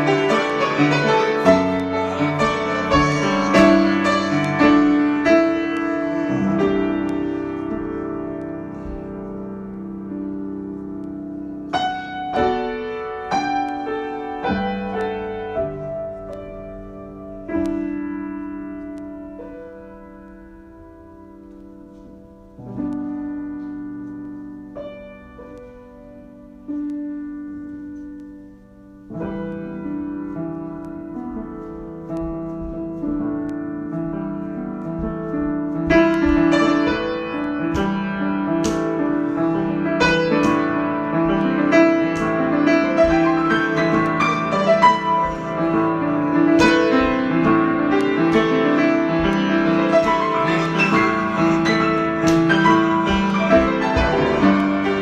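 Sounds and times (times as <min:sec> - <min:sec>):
solo piano: 0:00.0 - 0:55.0.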